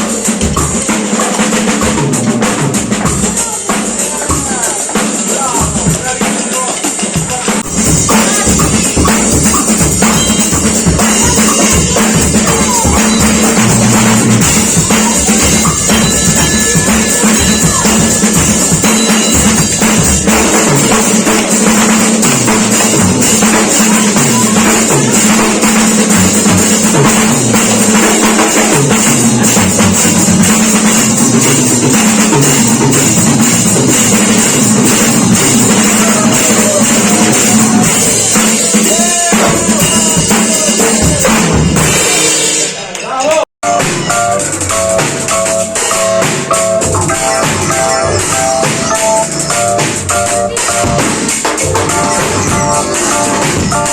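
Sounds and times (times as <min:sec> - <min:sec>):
cymbals: 0:00.0 - 0:53.9
drum kit playing loudly: 0:00.0 - 0:53.9
music with bass line: 0:07.6 - 0:42.4, 0:43.6 - 0:53.9.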